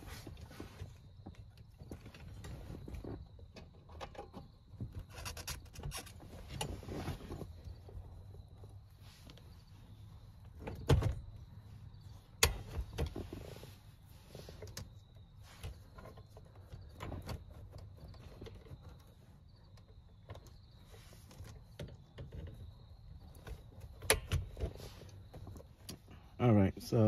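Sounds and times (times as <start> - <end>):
handling noise: 0.0 - 26.3.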